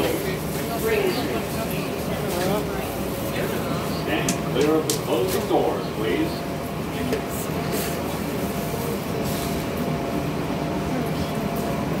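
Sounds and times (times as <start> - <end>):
subway car rumble and hum: 0.0 - 12.0.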